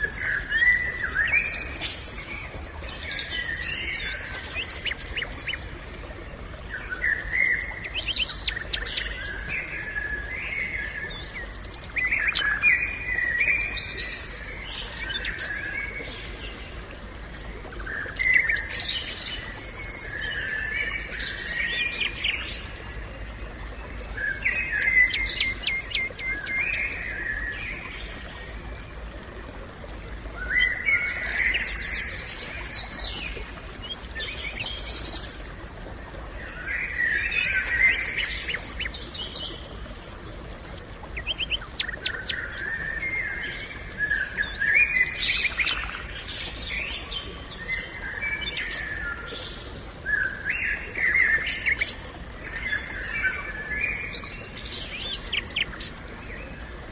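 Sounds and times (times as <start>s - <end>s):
birds singing: 0.0s - 56.9s.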